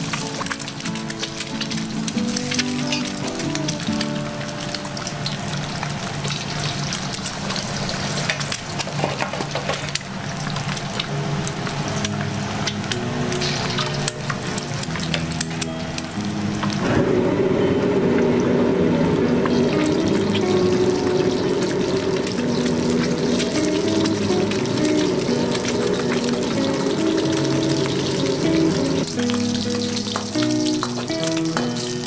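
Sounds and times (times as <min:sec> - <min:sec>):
eggs frying in sizzling oil: 0:00.0 - 0:16.9, 0:17.9 - 0:32.0.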